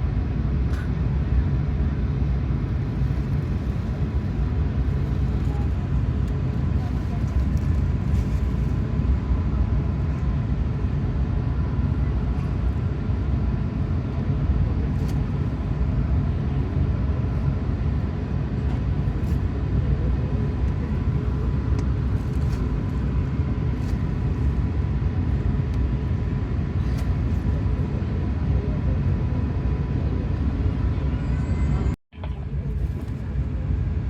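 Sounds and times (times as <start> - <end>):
low rumble inside airliner cabin: 0.0 - 34.0.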